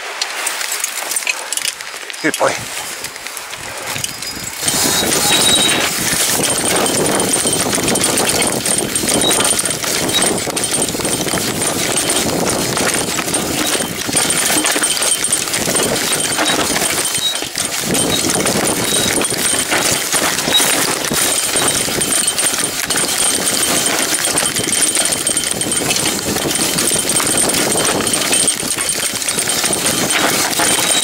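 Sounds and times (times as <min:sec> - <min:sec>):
bike knocking and rattling: 0:00.0 - 0:31.0
bike tyres rumbling over dirt: 0:00.0 - 0:31.0.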